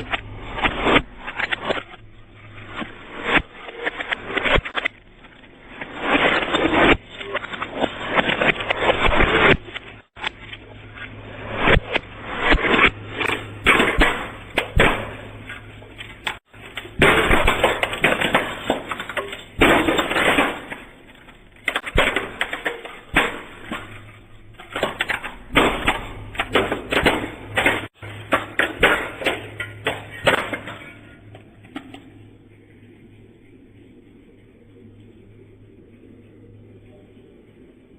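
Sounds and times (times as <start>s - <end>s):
objects crunching under car tyres: 0.0s - 32.1s
low hum: 0.0s - 37.9s.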